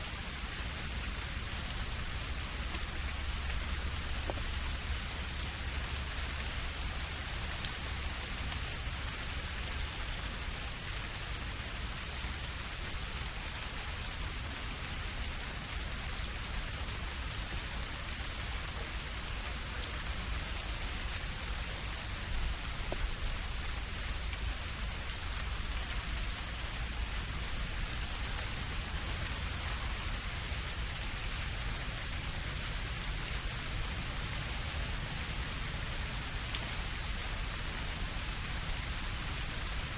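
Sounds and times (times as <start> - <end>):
steady rain falling: 0.0 - 39.9
drips falling from leaves: 1.7 - 39.9.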